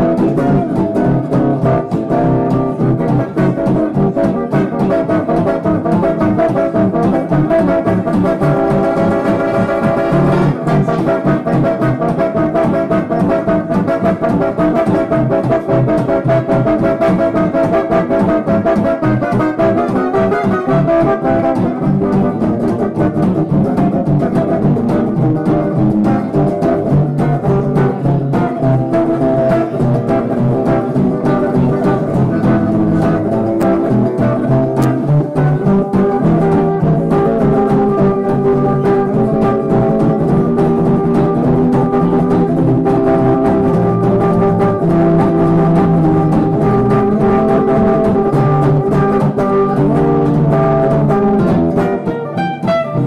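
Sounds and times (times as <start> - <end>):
acoustic blues on guitars: 0.0 - 53.0.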